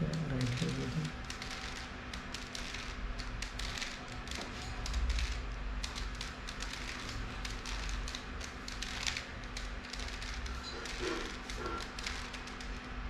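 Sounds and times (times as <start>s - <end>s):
plastic puzzle cube clicking: 0.1s - 12.7s.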